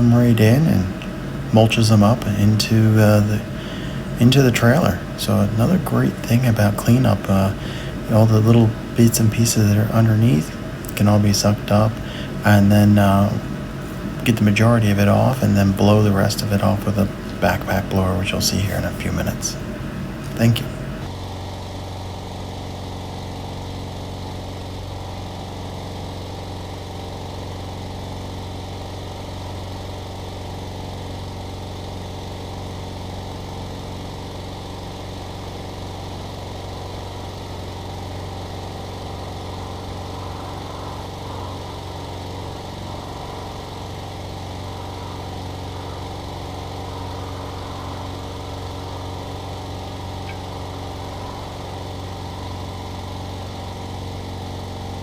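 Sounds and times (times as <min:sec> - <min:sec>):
leaf vacuum engine humming: 0:00.0 - 0:55.0.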